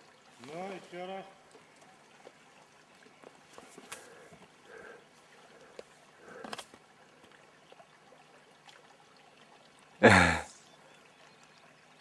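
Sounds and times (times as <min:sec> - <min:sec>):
shallow river flowing: 0:00.0 - 0:12.0.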